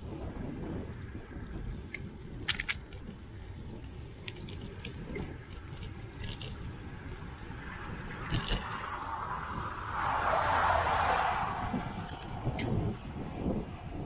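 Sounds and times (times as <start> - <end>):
bicycle rolling on asphalt: 0.0 - 14.0
wind: 0.0 - 14.0.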